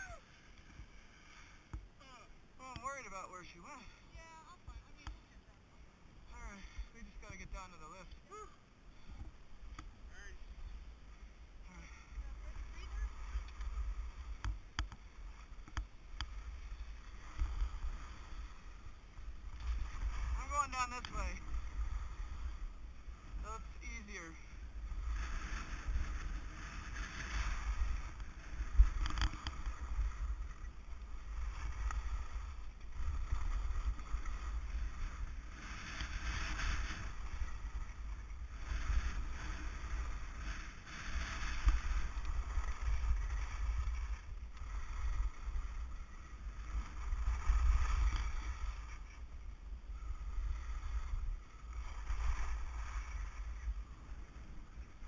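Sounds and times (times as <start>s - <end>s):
skis scraping on snow: 0.0s - 5.4s, 6.1s - 55.0s
wind rumble on microphone: 0.0s - 55.0s.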